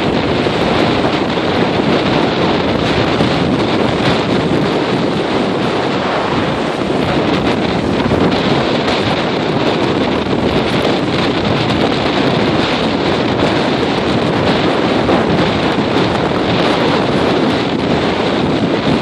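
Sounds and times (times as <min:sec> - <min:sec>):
waves breaking: 0:00.0 - 0:19.0
wind buffeting microphone: 0:00.0 - 0:19.0.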